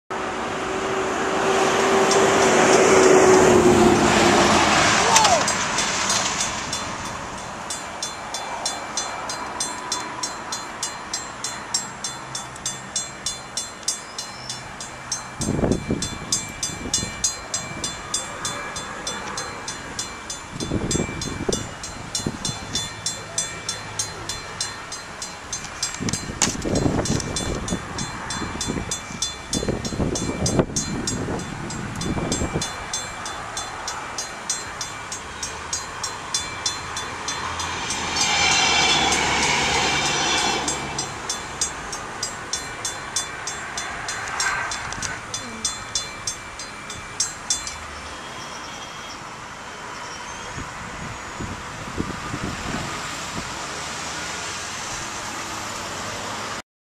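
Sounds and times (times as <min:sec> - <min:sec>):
railroad crossing bell ringing: 0:00.3 - 0:56.5.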